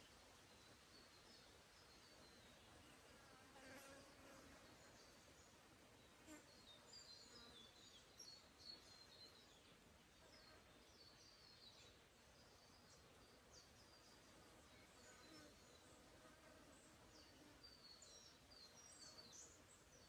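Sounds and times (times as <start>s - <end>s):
small birds chirping: 0.0s - 20.0s
soft background hiss: 0.0s - 20.0s.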